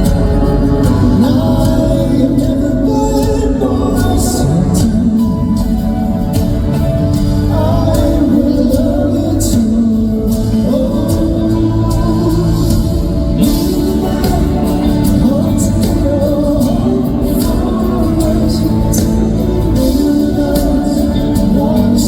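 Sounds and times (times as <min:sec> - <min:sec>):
band playing live: 0:00.0 - 0:22.0
person singing: 0:00.0 - 0:22.0.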